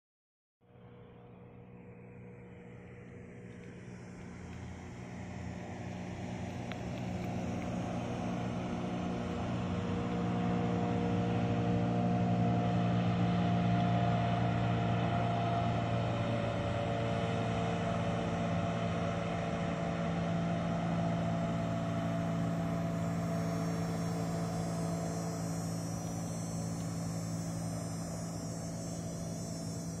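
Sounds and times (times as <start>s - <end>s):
motorboat engine passing: 0.6s - 30.0s.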